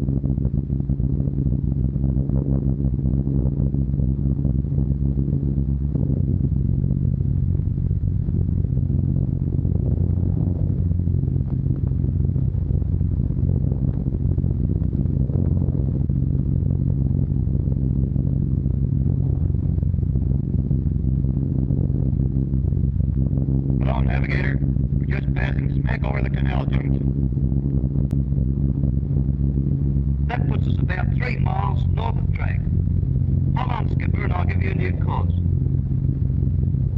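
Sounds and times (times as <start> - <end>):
aircraft engines droning: 0.0 - 36.9.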